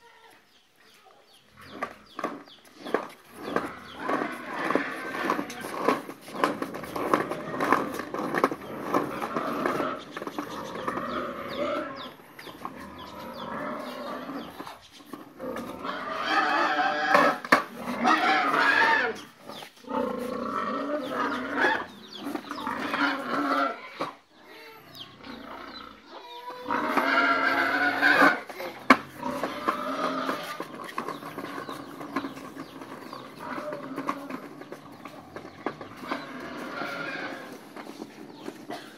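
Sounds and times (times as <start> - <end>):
plastic wheels rumbling over tiles: 1.7 - 24.2, 26.7 - 38.9.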